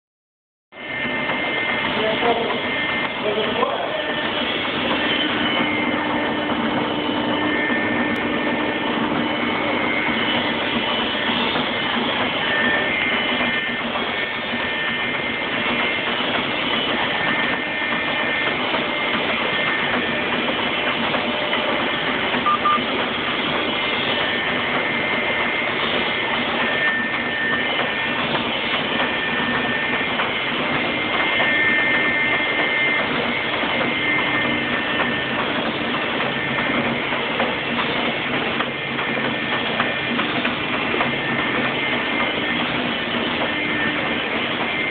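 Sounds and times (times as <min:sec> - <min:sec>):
printing press clatter: 0:00.8 - 0:44.9.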